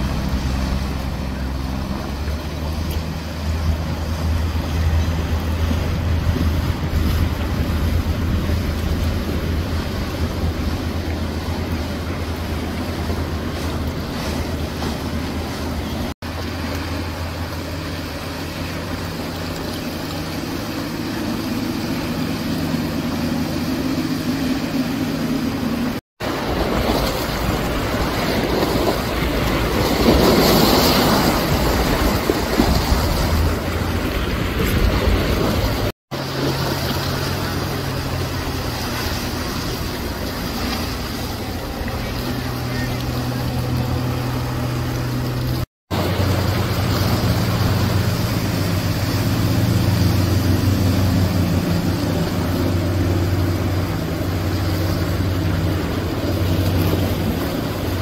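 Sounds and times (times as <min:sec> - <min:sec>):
outboard motor drone: 0:00.0 - 0:58.0
water rushing along hulls: 0:00.0 - 0:58.0.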